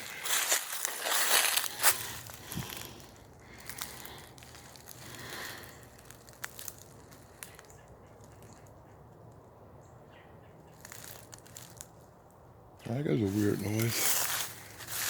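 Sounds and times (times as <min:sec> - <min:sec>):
footsteps crunching through dry leaves: 0:00.0 - 0:08.7, 0:10.7 - 0:12.0, 0:12.8 - 0:15.0.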